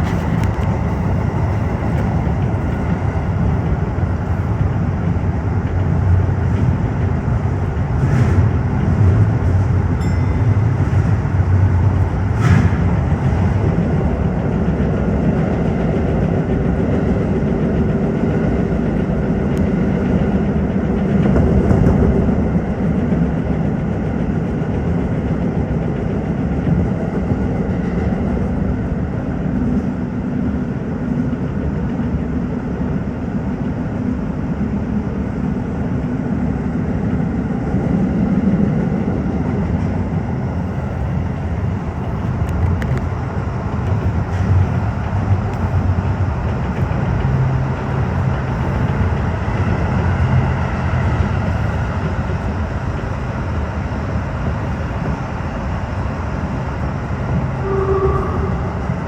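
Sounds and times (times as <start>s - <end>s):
electric train running: 0.0s - 59.0s.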